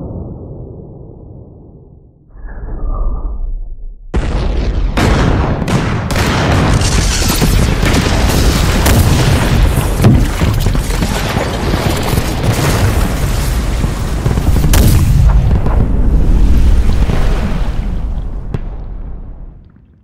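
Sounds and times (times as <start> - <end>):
booms and blasts: 3.3 - 19.8.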